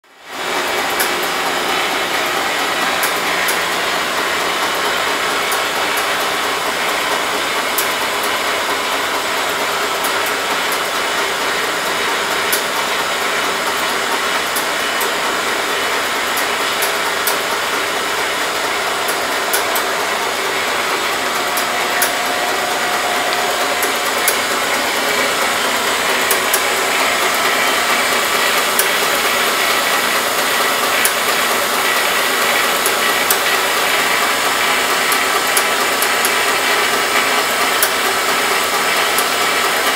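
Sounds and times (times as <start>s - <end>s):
yarn winding machine whirring: 0.0s - 39.9s.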